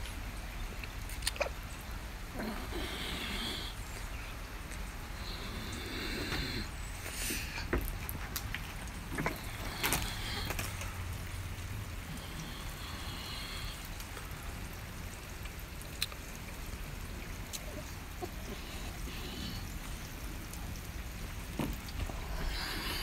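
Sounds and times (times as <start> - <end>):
freezing rain patter: 0.0 - 23.0.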